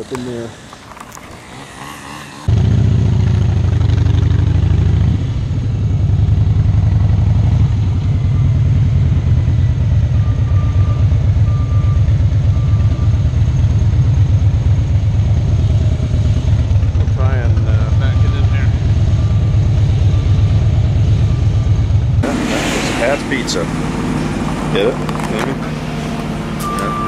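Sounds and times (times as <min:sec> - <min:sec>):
motorcycle engine running: 0:01.0 - 0:27.0.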